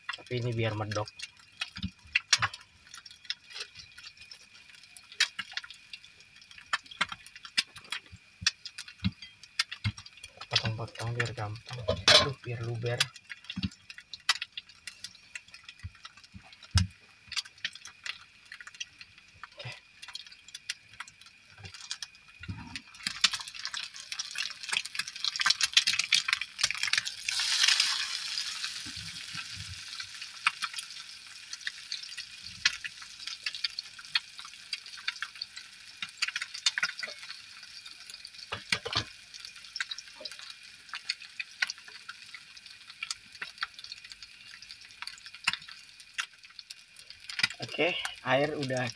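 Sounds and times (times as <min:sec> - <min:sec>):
egg sizzling in oil: 0:00.0 - 0:48.9.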